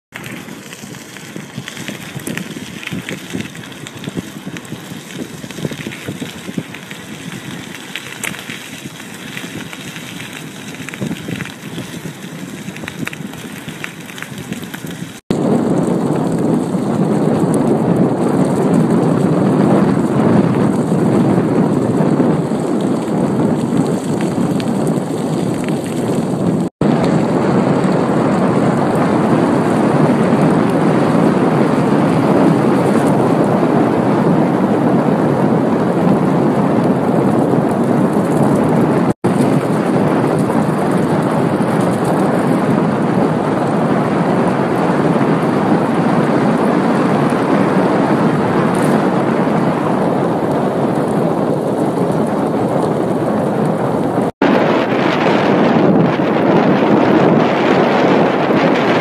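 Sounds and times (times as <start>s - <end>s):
tyres crackling on gravel: 0.1s - 59.0s
wind rushing over microphone: 0.1s - 59.0s.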